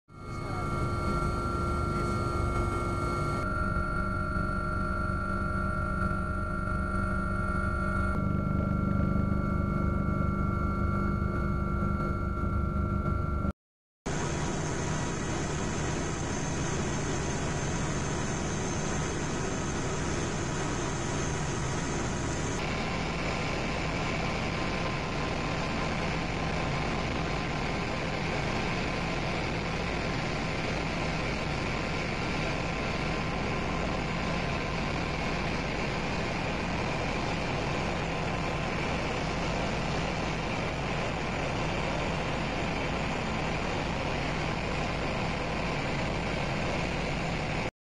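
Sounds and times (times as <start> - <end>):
helicopter engine and rotor drone: 0.1 - 13.5, 14.1 - 47.7.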